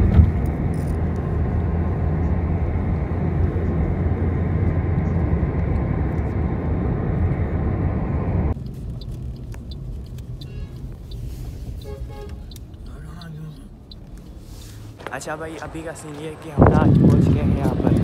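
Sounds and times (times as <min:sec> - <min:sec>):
car road noise from inside: 0:00.0 - 0:18.0.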